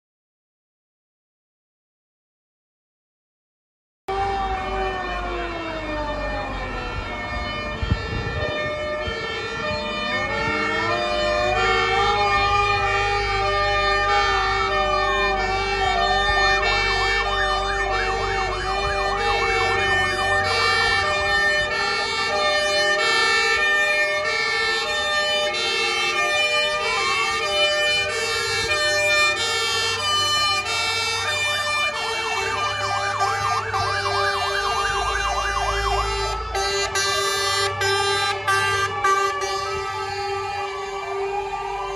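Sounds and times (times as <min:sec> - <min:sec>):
fire engine sirens: 0:04.1 - 0:41.9.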